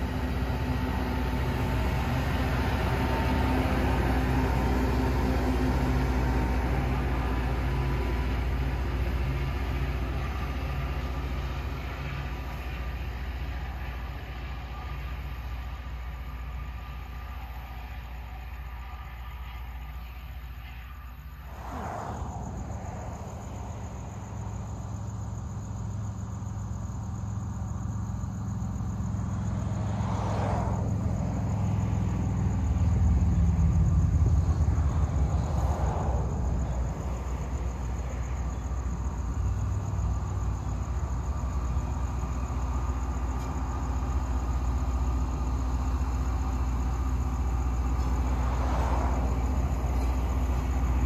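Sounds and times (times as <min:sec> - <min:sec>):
crickets chirping: 0:00.0 - 0:51.0
diesel engine rumble: 0:00.0 - 0:51.0.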